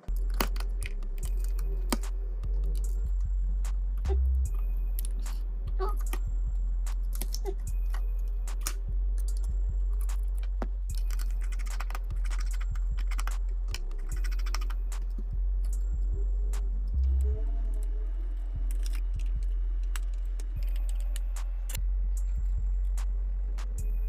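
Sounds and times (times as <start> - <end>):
background music: 0.0 - 24.0
low bass hum: 0.0 - 24.0.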